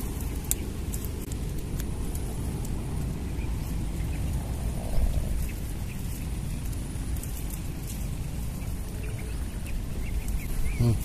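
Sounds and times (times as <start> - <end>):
sticks rustling in grass: 0.0 - 11.0
wind rumbling on microphone: 0.0 - 11.0.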